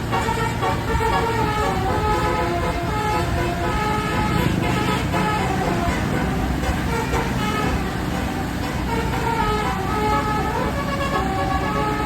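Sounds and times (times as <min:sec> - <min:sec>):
multi-tone bus horn playing a tune: 0:00.0 - 0:12.0.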